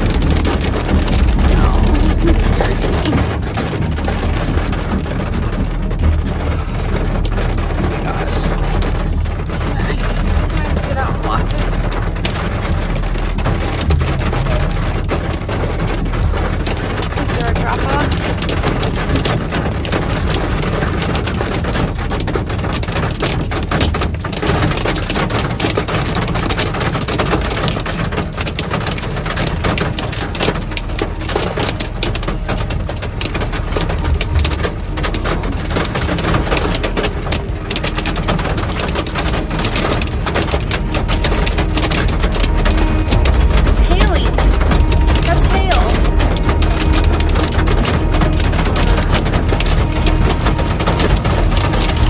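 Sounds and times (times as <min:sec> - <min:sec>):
hail hitting vehicle: 0:00.0 - 0:52.0
heavy rain hissing on vehicle: 0:00.0 - 0:52.0.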